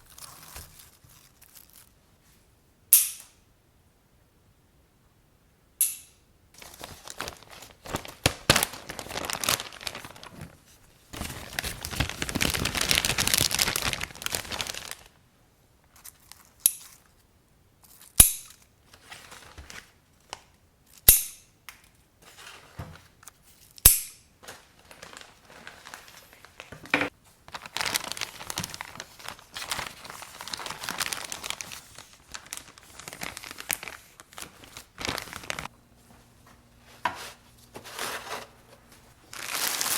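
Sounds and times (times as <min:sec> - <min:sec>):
rustling and crinkling packaging: 0:00.0 - 0:02.4, 0:06.6 - 0:15.2, 0:15.9 - 0:21.0, 0:22.2 - 0:39.9.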